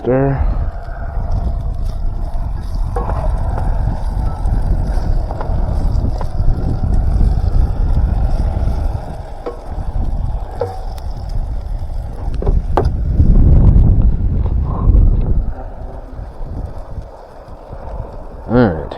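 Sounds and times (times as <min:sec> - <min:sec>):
low rumble: 0:00.0 - 0:18.9.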